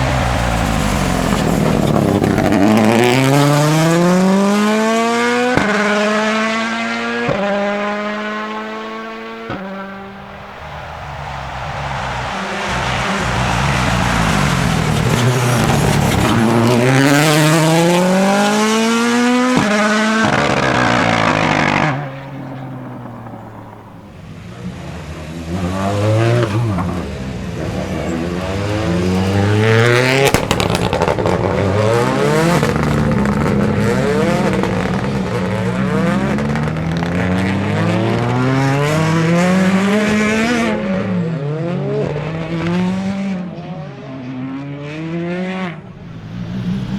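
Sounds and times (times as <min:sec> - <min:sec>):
rally car engine revving hard: 0:00.0 - 0:46.9.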